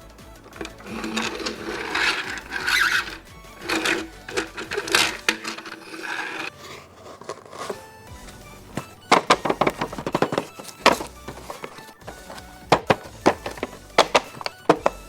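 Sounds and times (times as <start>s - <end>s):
toy packaging rubbing and scraping: 0.0s - 15.0s.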